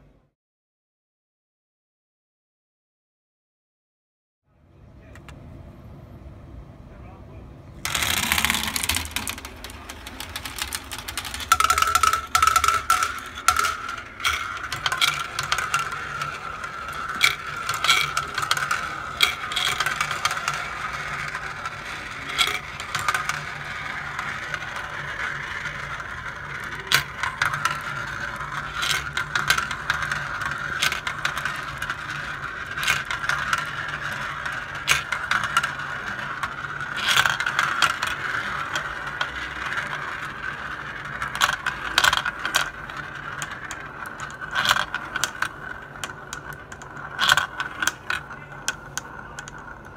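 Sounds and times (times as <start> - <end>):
marbles clicking together: 7.8 - 49.9
marbles rolling on plastic track: 7.8 - 49.9.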